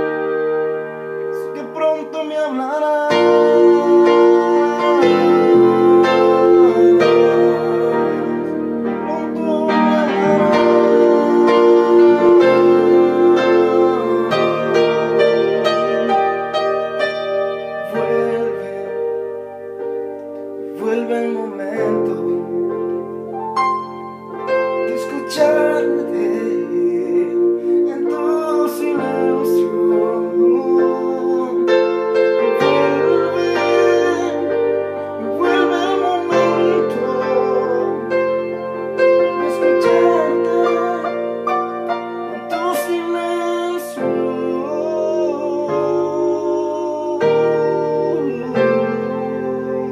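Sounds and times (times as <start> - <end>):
electronic keyboard chords: 0.0 - 49.9.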